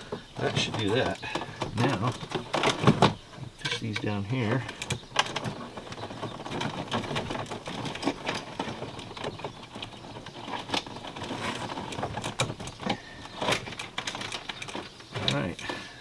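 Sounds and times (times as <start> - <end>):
plastic clicks and knocks: 0.0 - 15.8
wires rustling: 0.0 - 16.0.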